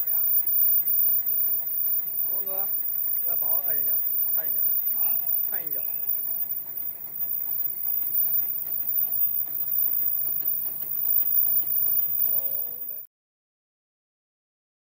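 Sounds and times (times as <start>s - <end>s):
faint rapid ticking: 0.0s - 13.0s
machine running: 0.0s - 13.0s.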